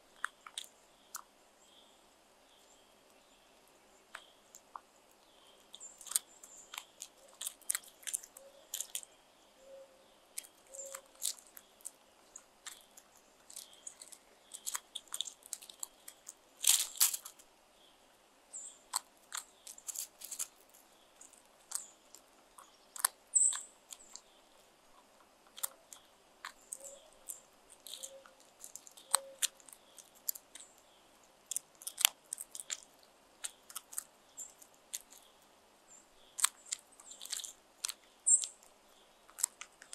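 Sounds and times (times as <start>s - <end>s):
crows pecking on gravel: 2.6s - 9.2s, 10.0s - 17.6s, 18.2s - 39.9s.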